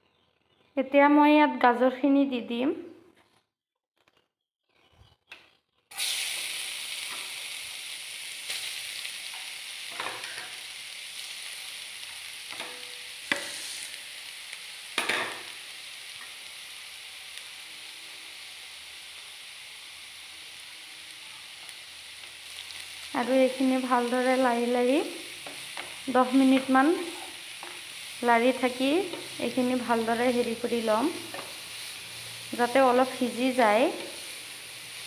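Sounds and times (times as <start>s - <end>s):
carrots sizzling in hot fat: 5.9s - 35.0s.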